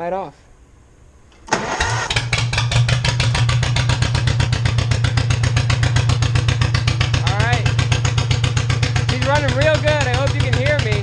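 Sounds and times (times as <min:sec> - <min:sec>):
two-cylinder engine running: 0:01.5 - 0:11.0.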